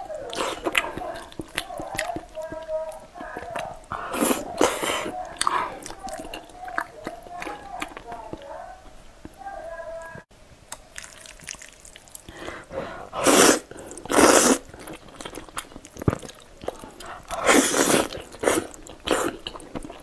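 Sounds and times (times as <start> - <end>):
noodles slurped: 0.0 - 8.2, 10.9 - 20.0
wet chewing: 0.0 - 9.4, 10.7 - 20.0.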